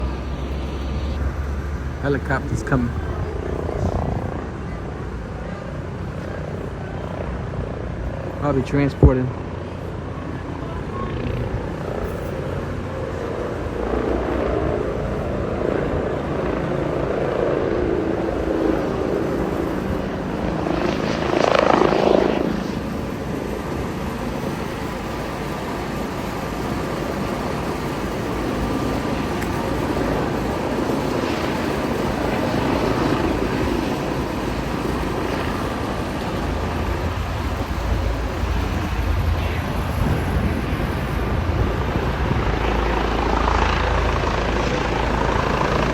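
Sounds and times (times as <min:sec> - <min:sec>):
helicopter rotor and engine: 0:00.0 - 0:45.9.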